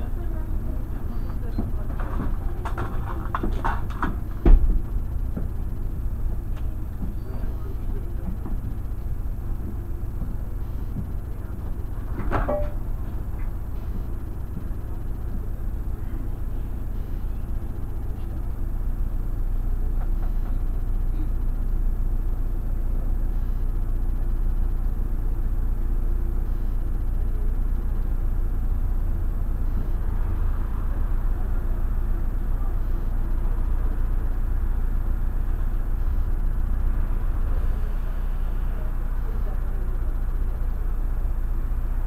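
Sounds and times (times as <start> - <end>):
bus engine rumble: 0.0 - 42.0
road noise: 0.0 - 42.0.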